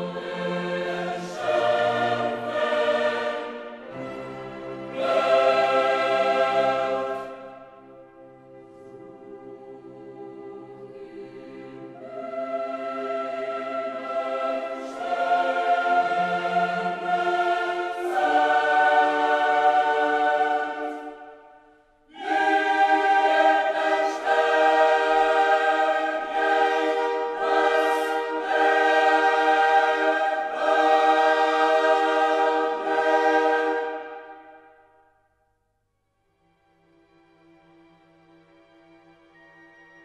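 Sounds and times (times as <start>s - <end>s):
choir singing sustained chords: 0.0s - 35.6s.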